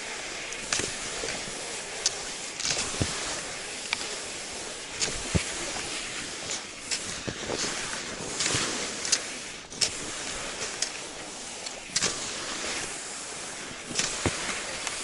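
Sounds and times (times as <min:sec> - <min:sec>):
skis crunching over snow: 0:00.0 - 0:15.0.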